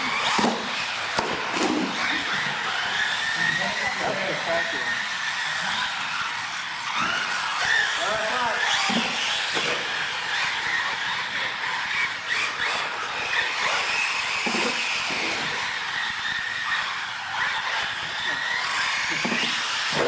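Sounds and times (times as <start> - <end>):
high-pitched electric motor whine: 0.0 - 20.0.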